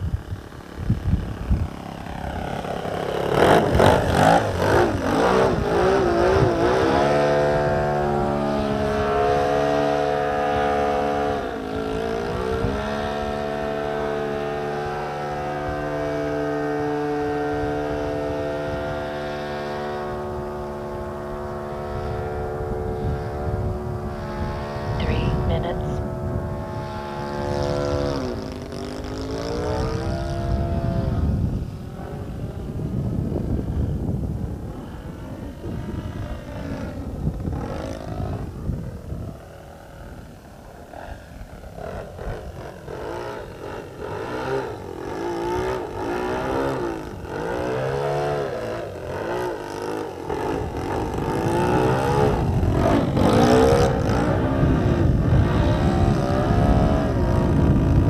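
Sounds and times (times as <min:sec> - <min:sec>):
model plane motor whining: 0:00.0 - 0:32.8, 0:33.4 - 0:58.0.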